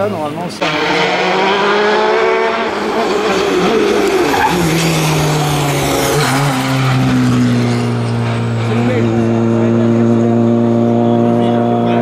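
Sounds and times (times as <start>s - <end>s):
rally car engine at high revs: 0.6s - 12.0s.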